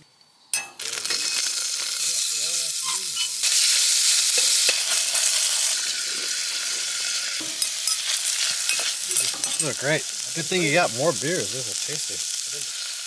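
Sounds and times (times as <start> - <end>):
hot oil sizzling in a saucepan: 0.5 - 13.0.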